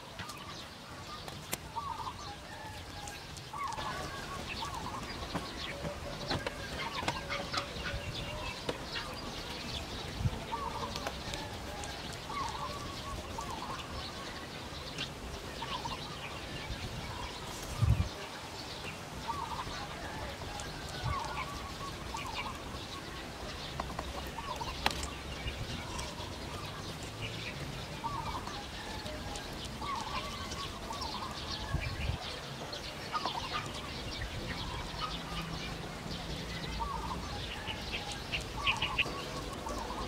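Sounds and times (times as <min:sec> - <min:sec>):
birds clucking: 0:00.0 - 0:40.0.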